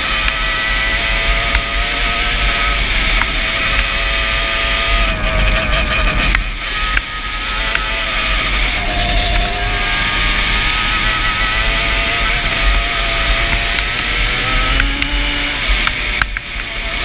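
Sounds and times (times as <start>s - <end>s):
two-stroke quad engine: 0.0s - 17.0s.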